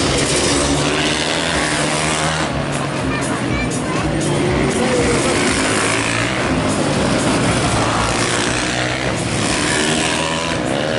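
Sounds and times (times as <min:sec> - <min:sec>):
motorcycle engines racing: 0:00.0 - 0:10.9.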